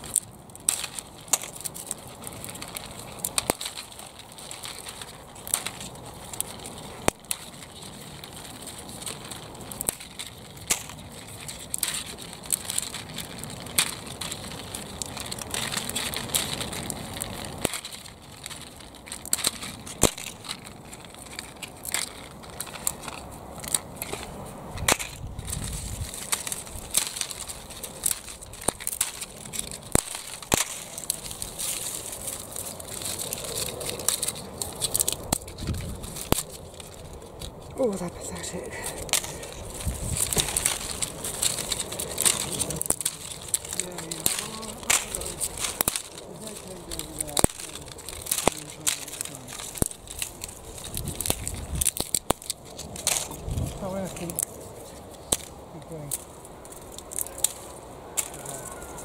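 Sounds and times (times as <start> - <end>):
dry bean pods crackling: 0.0 - 59.0
dry foliage rustling: 0.0 - 59.0.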